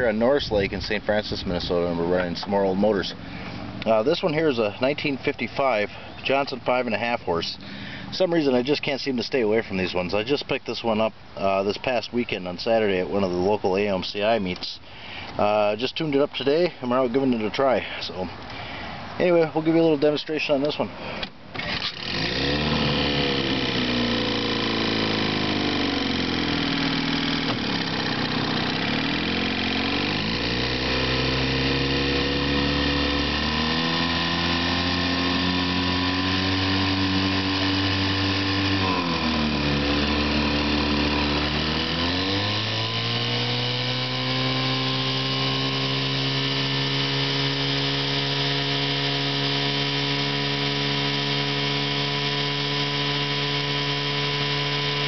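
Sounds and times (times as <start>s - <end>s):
outboard motor running: 0.0s - 10.4s, 21.0s - 55.0s.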